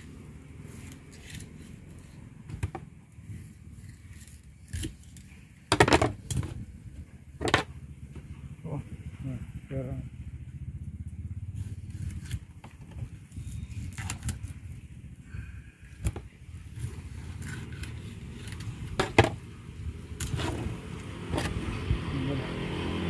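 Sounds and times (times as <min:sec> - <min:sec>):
steady low hum: 0:00.0 - 0:22.6.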